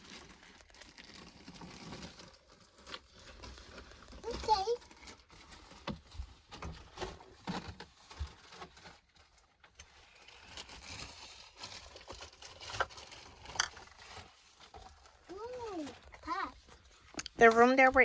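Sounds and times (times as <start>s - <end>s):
small objects being handled: 0.0s - 18.0s.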